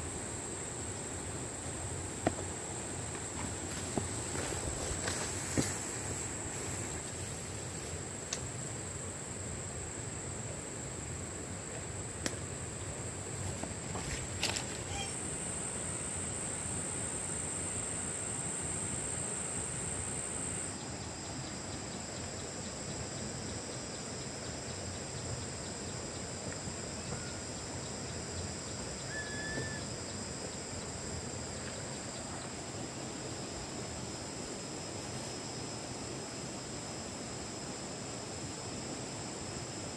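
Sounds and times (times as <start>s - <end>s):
insects droning: 0.0s - 39.9s
outdoor hiss: 0.0s - 39.9s.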